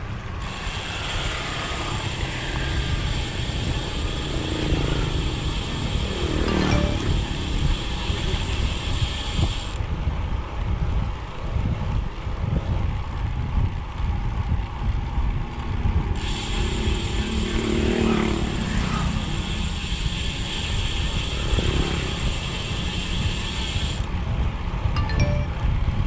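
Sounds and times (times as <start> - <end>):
bicycle freehub buzzing: 0.0 - 26.0
wind noise: 0.0 - 26.0.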